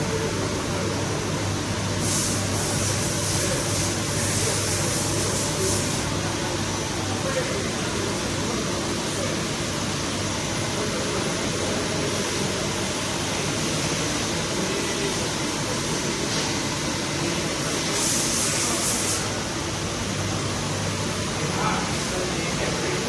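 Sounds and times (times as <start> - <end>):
lathe humming and hissing: 0.0 - 23.0.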